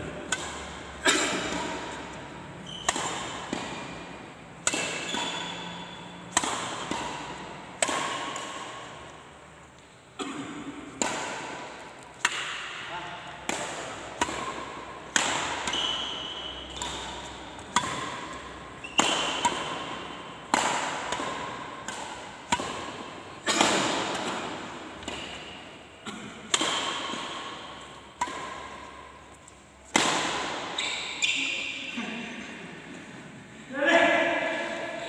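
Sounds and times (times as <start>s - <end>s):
shuttlecock hit with racket echoing: 0.0s - 31.9s.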